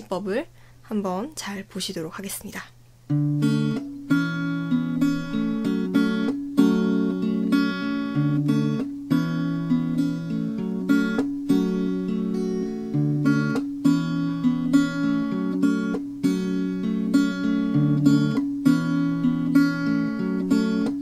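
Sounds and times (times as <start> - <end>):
fingerpicked acoustic guitar: 3.1 - 21.0.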